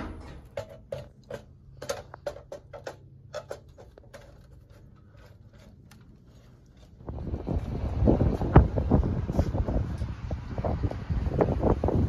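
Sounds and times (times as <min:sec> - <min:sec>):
hands and boots on a ladder: 0:00.0 - 0:11.0.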